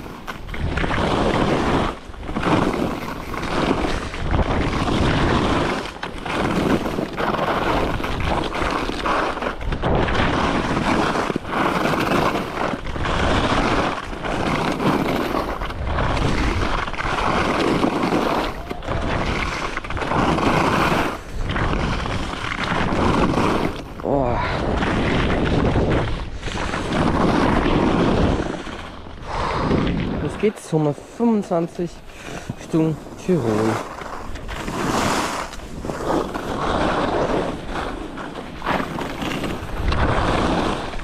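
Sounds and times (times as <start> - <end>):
skis scraping snow: 0.0 - 41.0
wind on microphone: 0.0 - 41.0.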